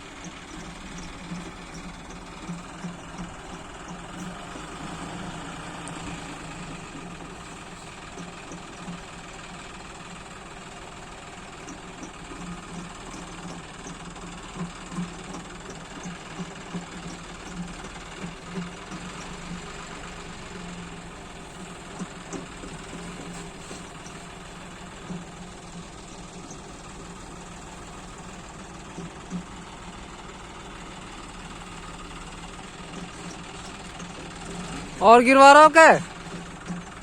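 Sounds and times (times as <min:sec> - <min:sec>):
tractor diesel engine idling: 0:00.0 - 0:37.0.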